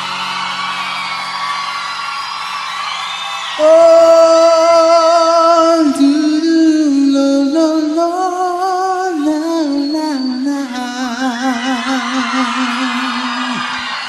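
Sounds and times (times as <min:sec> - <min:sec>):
slow pop music: 0:00.0 - 0:14.0.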